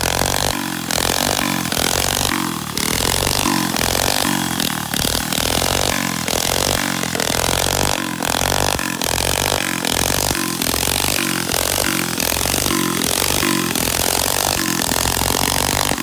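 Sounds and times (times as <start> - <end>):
small engine revving: 0.0 - 16.0
tyre spinning on asphalt: 0.0 - 16.0.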